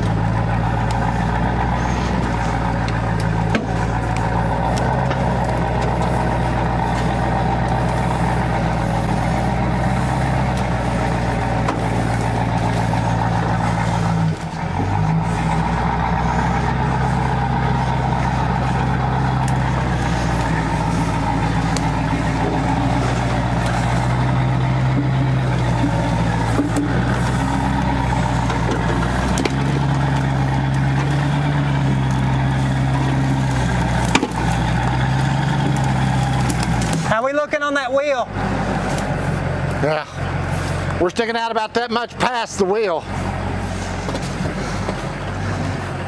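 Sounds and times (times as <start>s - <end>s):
vehicle engine running under load: 0.0s - 46.0s.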